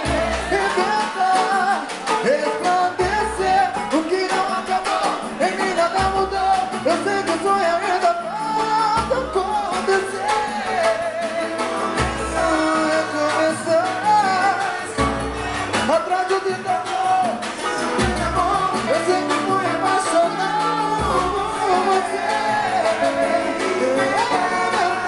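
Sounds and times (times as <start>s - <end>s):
guitars: 0.0s - 25.0s
hand drum: 0.0s - 25.0s
man singing: 0.0s - 25.0s.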